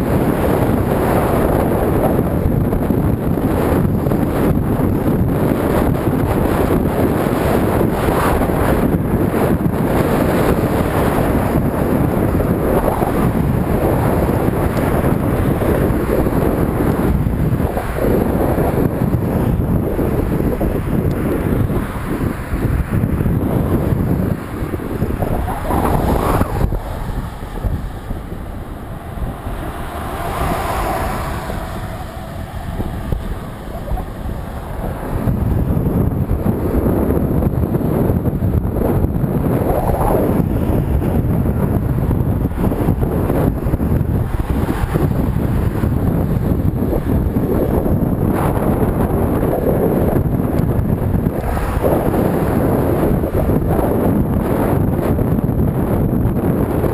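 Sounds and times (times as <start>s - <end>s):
passing highway traffic: 0.0s - 56.9s
wind buffeting microphone: 0.0s - 56.9s.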